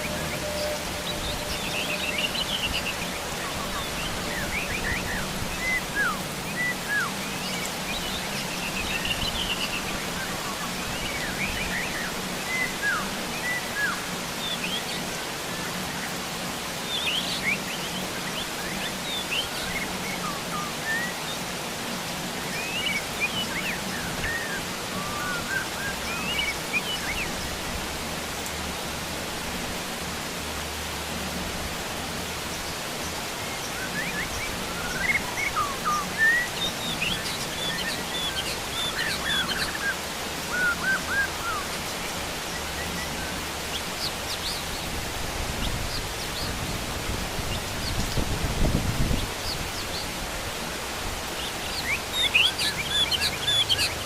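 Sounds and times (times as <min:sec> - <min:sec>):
birds chirping: 0:00.0 - 0:30.0, 0:31.0 - 0:54.0
heavy rain falling: 0:00.0 - 0:54.0.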